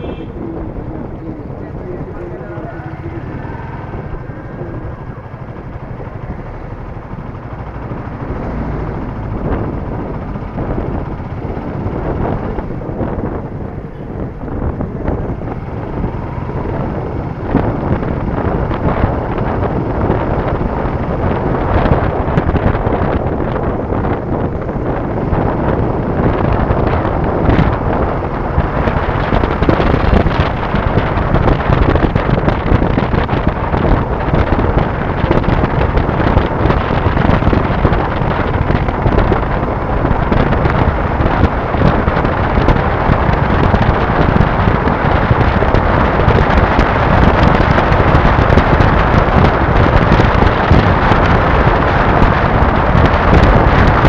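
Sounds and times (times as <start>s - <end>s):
motorcycle running: 0.0s - 54.0s
road noise: 0.0s - 54.0s
wind buffeting microphone: 0.0s - 54.0s.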